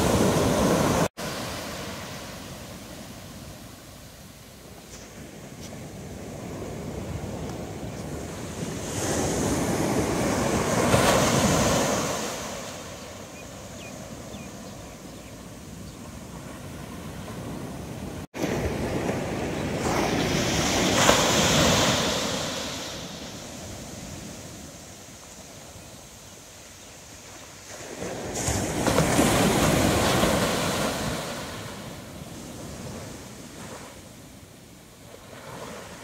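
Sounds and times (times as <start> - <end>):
small waves breaking on beach: 0.0 - 36.0.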